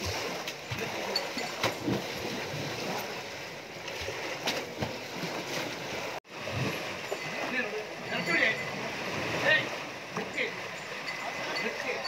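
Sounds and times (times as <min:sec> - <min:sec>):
elephant splashing water: 0:00.0 - 0:12.0.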